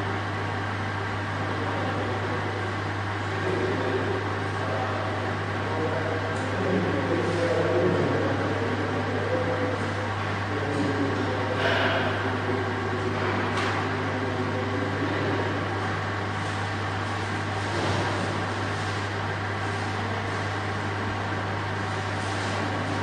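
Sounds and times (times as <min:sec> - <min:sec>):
hallway room noise: 0:00.0 - 0:23.0
vending machine humming: 0:00.0 - 0:23.0.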